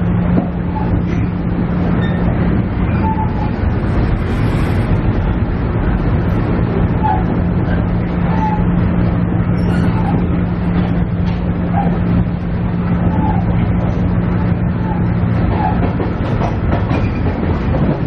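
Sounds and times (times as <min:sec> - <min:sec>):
constant rushing noise: 0:00.0 - 0:18.0
diesel railcar engine hum: 0:00.0 - 0:18.0.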